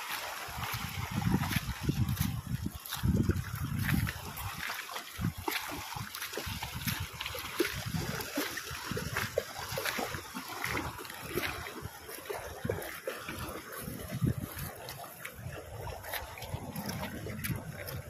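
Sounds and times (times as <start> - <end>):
dog splashing through water: 0.0 - 18.0.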